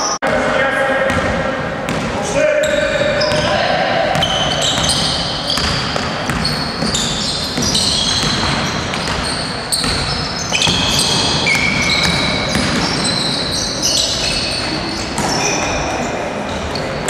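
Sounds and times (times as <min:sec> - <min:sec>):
basketball bouncing: 0:01.1 - 0:13.6, 0:14.2 - 0:15.7
shoes squeaking on gym floor: 0:02.6 - 0:03.6, 0:04.2 - 0:17.0.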